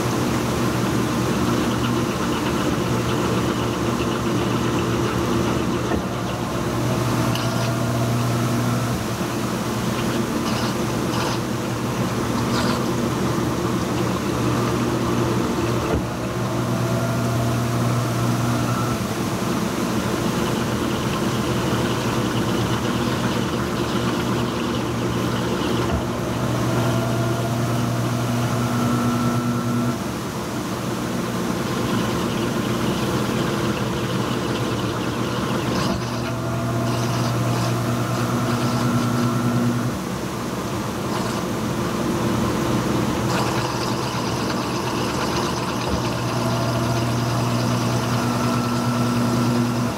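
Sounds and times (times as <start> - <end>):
washing machine motor hum: 0.0 - 49.9.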